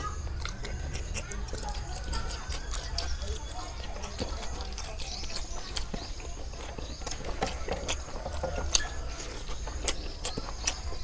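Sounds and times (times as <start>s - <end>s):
lip-smacking clicks: 0.0s - 11.0s
wet chewing: 0.0s - 11.0s.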